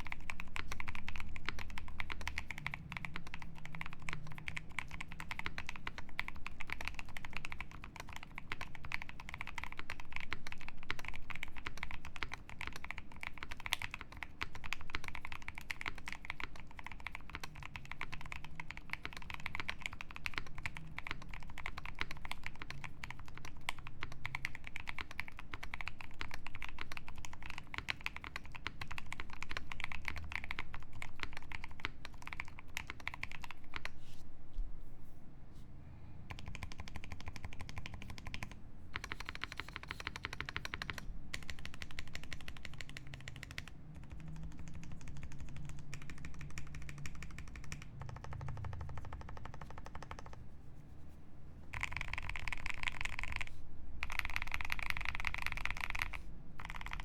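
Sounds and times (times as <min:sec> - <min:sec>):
fast mechanical keyboard typing: 0:00.0 - 0:34.0, 0:36.3 - 0:50.4, 0:51.7 - 0:57.0.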